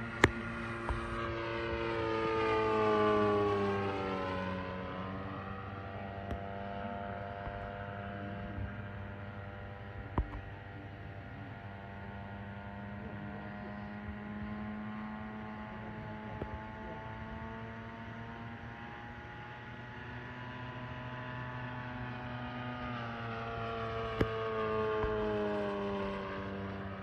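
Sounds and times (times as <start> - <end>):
model plane propeller drone: 0.0 - 27.0.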